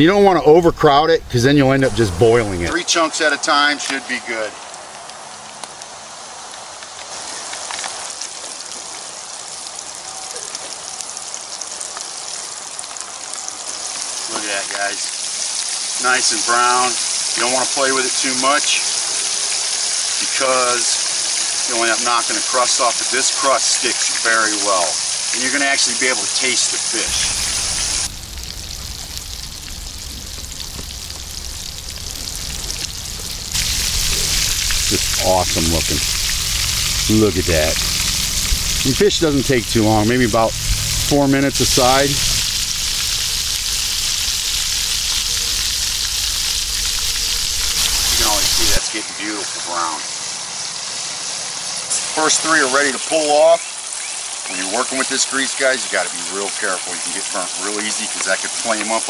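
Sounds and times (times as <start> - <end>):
fish deep-frying in grease: 6.1 - 59.0.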